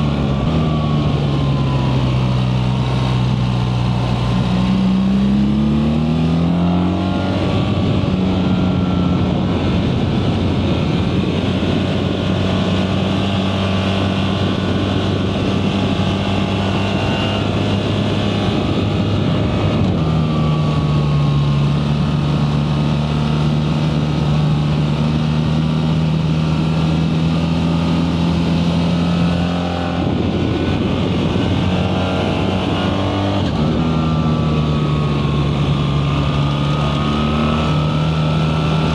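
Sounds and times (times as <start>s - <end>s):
motorcycle engine under load: 0.0s - 38.9s
rushing wind: 0.0s - 38.9s.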